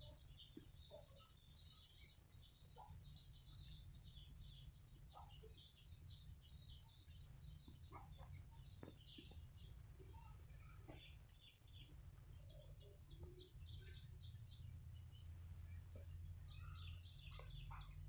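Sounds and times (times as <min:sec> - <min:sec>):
love birds chattering: 0:00.0 - 0:18.0.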